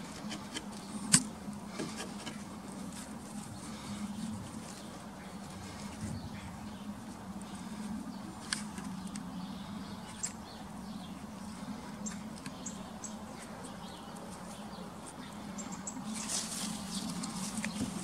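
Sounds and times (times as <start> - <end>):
leaves rustling: 0.0 - 12.4, 13.2 - 18.0.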